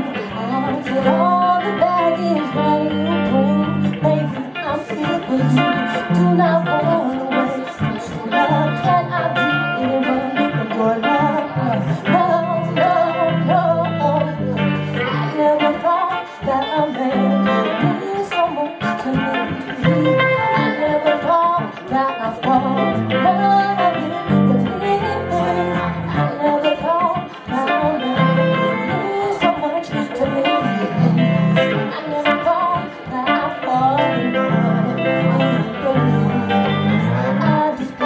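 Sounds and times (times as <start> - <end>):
bass line: 0.0 - 18.1, 18.8 - 29.3, 29.9 - 38.0
guitar: 0.0 - 38.0
person singing: 0.0 - 38.0.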